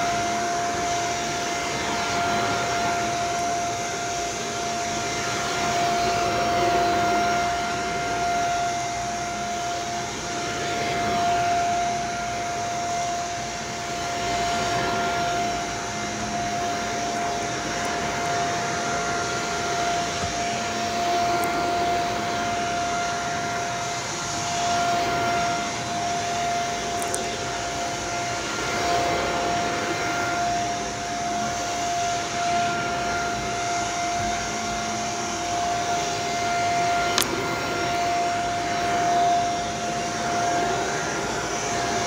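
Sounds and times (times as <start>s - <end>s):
vacuum cleaner running on carpet: 0.0s - 42.0s.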